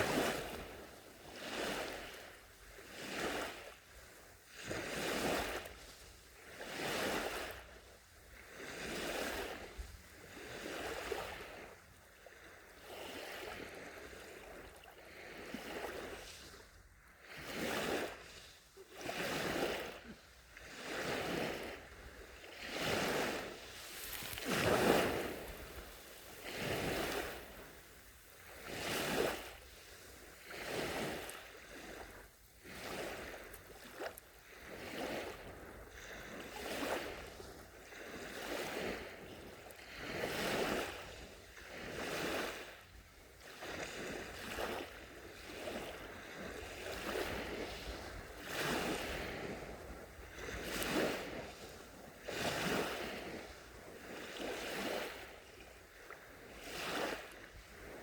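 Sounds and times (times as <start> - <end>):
waves washing onto sand: 0.0 - 58.0.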